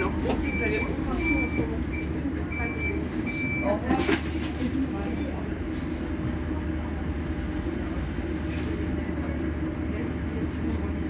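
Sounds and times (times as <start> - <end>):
electric bus humming: 0.0 - 11.0.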